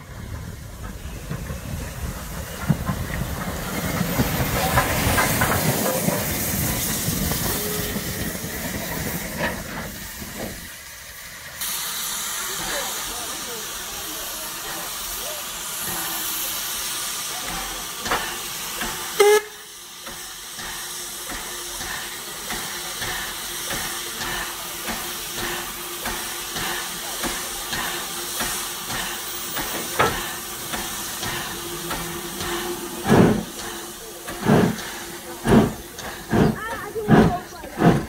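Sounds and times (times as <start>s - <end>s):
soft rhythmic train beats: 0.0s - 38.0s
steam hissing: 0.0s - 38.0s
steam engine exhaust chuffs: 0.2s - 38.0s.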